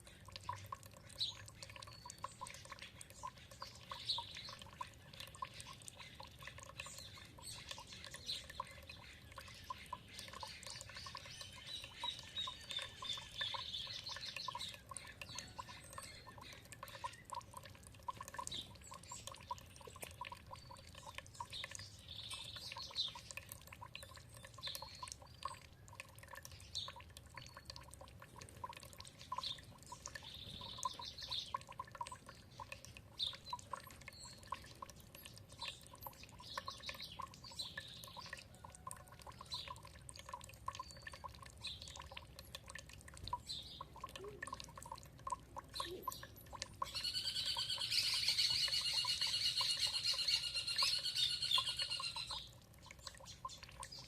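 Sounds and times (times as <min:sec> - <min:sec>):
songbirds chirping: 0:00.0 - 0:54.0
water dripping and trickling: 0:00.0 - 0:54.0.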